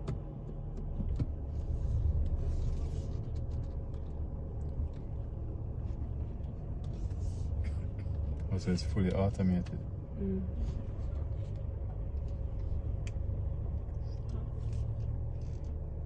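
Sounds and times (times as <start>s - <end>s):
car engine rumble from inside: 0.0s - 16.0s.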